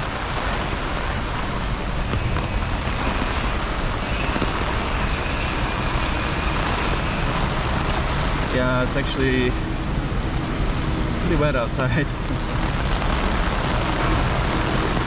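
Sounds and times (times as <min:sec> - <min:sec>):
heavy rain on wet street: 0:00.0 - 0:15.0.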